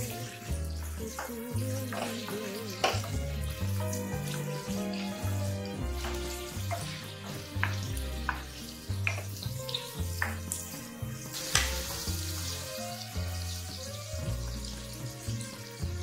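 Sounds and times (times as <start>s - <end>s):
background music with bass: 0.0s - 16.0s
shrimp sizzling in hot oil: 0.0s - 16.0s.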